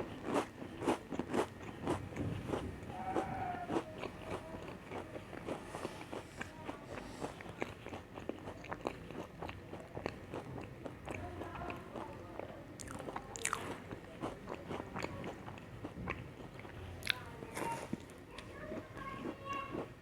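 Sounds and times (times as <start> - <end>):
chewing crunchy cookies: 0.0 - 20.0.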